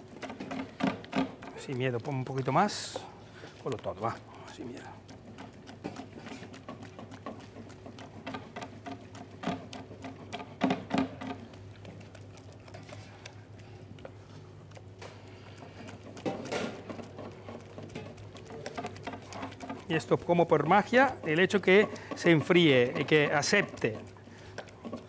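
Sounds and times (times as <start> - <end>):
risotto stirred in pan: 0.0 - 14.2, 14.8 - 25.0.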